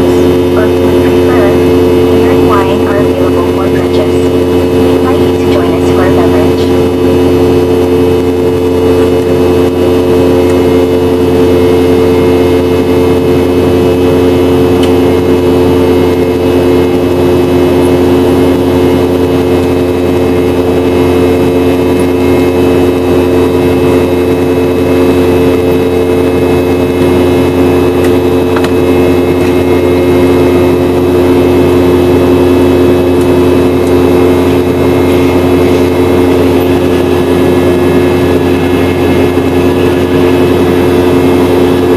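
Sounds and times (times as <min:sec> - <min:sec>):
jet engines droning in cabin: 0:00.0 - 0:41.9.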